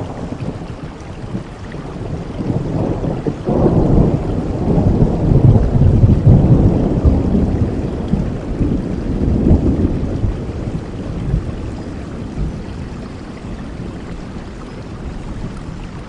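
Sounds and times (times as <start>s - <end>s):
thunder rolling: 0.0s - 15.8s
steady rainfall: 0.0s - 16.0s.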